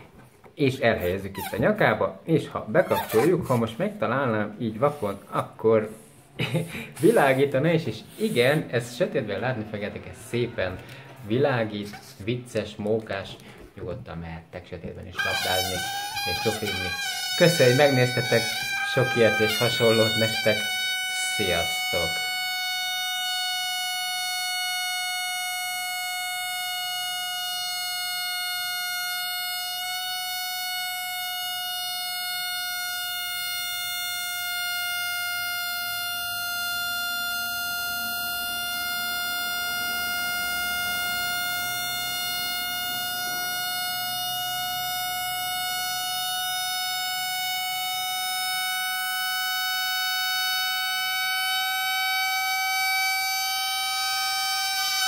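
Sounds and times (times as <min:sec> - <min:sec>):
balloon deflating with a squeal: 0:00.8 - 0:13.7, 0:15.1 - 0:55.0.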